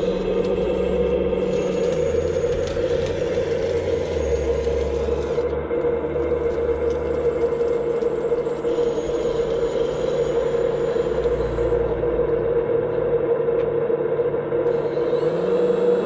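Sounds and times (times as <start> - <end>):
hydraulic pump whine: 0.0 - 16.0
low machine rumble: 0.0 - 16.0.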